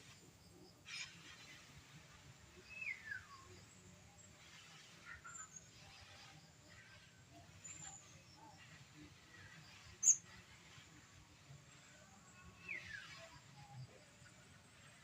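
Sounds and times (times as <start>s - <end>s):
faint birdsong: 0.0s - 15.0s
low background noise: 0.0s - 15.0s.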